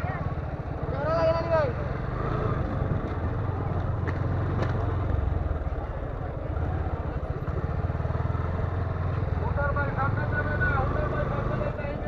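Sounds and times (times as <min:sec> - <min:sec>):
motorcycle engine running: 0:00.0 - 0:12.0
road noise: 0:00.0 - 0:12.0.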